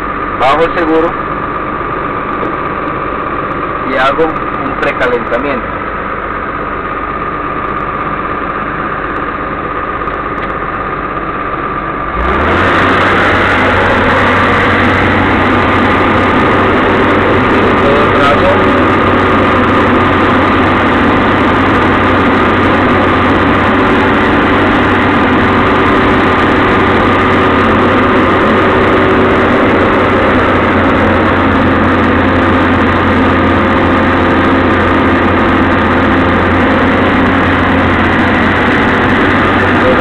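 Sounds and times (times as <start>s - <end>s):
constant higher tone: 0.0s - 40.0s
excavator diesel engine drone: 0.0s - 40.0s.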